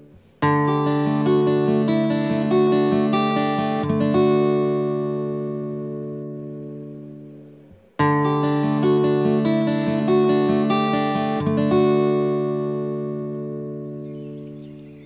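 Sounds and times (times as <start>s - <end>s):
plucked acoustic guitar: 0.0s - 15.0s
strummed guitar: 0.0s - 15.0s.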